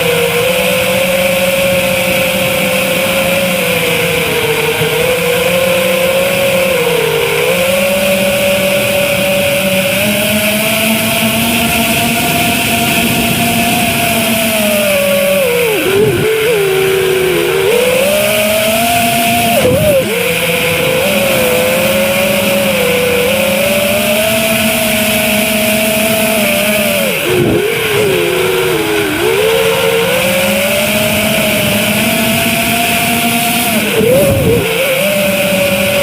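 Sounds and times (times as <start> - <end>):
quadcopter motors whining: 0.0 - 36.0.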